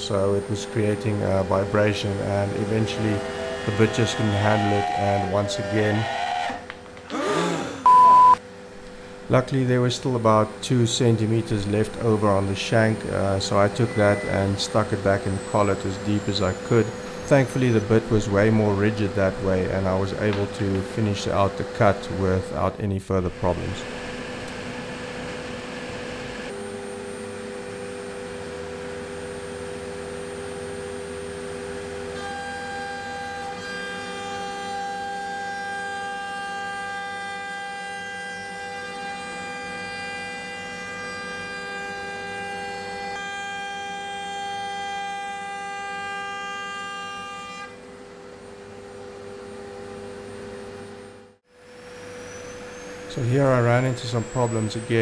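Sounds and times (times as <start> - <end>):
router spindle whining: 0.0 - 8.0, 9.7 - 46.4, 51.6 - 55.0.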